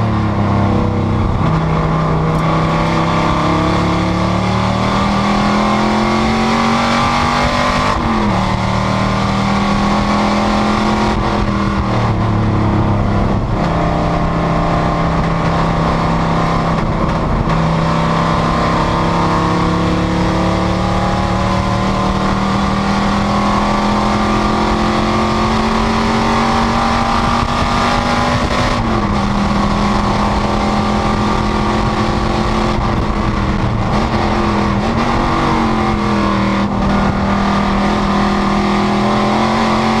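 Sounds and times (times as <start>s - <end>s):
race car engine revving: 0.0s - 40.0s.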